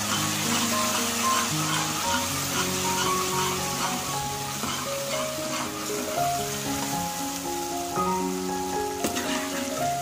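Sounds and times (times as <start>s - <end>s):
food sizzling in oil: 0.0s - 10.0s
instrumental background music: 0.0s - 10.0s.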